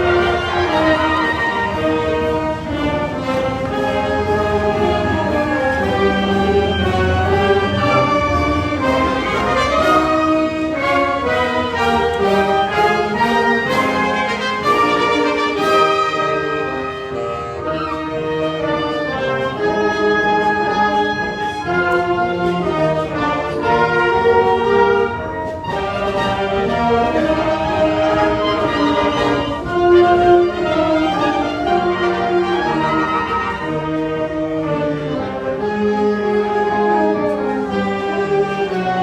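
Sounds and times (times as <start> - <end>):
orchestral music brass and strings: 0.0 - 39.0.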